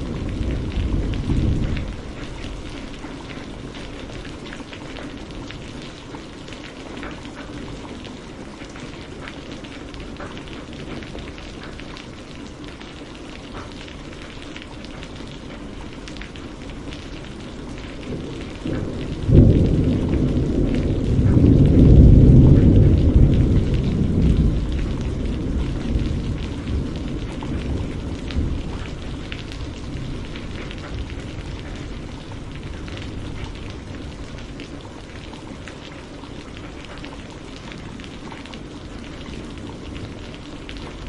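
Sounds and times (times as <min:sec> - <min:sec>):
low rumble of thunder: 0:00.0 - 0:41.0
raindrops ticking on a surface: 0:00.0 - 0:41.0
steady rain: 0:00.0 - 0:41.0.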